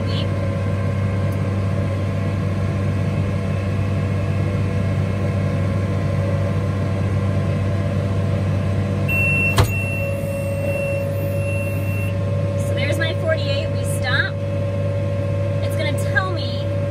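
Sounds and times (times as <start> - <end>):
tractor and baler droning: 0.0 - 16.9.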